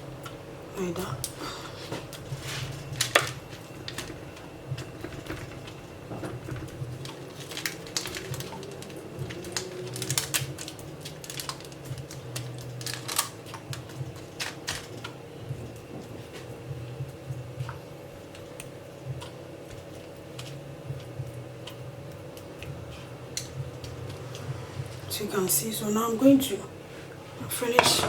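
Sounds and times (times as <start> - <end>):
low hum: 0.0 - 27.6.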